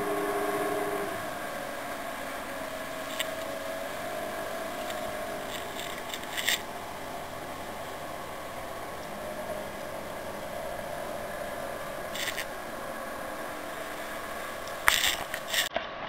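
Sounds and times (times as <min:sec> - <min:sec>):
motorboat engine running: 0:00.0 - 0:15.7
water rushing along hull: 0:00.0 - 0:15.7.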